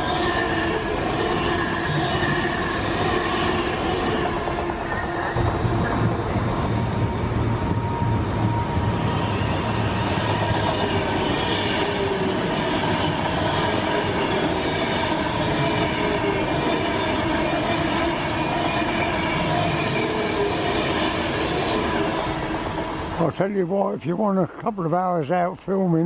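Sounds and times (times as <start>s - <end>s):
train wheels rumbling on rail: 0.0s - 24.5s.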